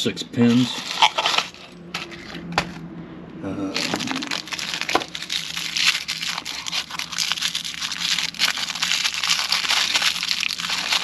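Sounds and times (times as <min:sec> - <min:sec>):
plastic packaging crinkling: 0:00.6 - 0:02.5, 0:03.7 - 0:11.0.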